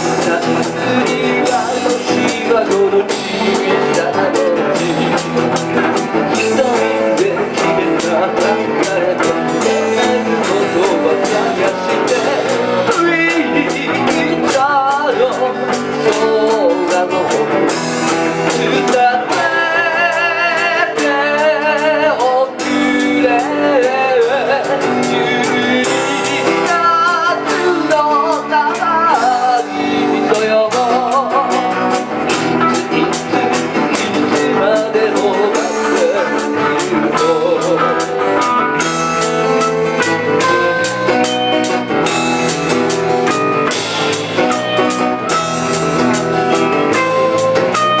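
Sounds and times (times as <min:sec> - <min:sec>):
acoustic guitar: 0:00.0 - 0:48.0
electric bass: 0:00.0 - 0:48.0
electric guitar: 0:00.0 - 0:48.0
man singing into a microphone: 0:00.0 - 0:48.0
steady beat: 0:00.0 - 0:48.0.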